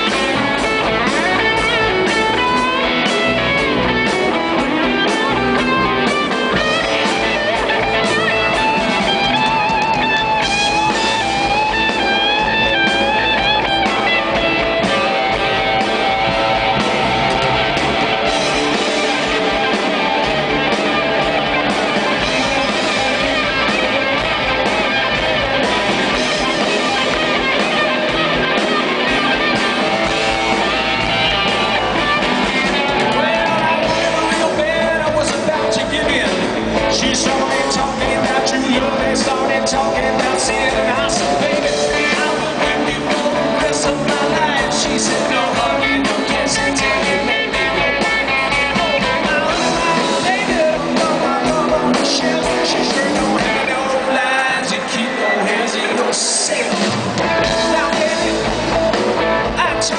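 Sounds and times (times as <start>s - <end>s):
bass guitar: 0.0s - 59.9s
drum kit: 0.0s - 59.9s
electric guitars: 0.0s - 59.9s
person singing: 0.0s - 59.9s.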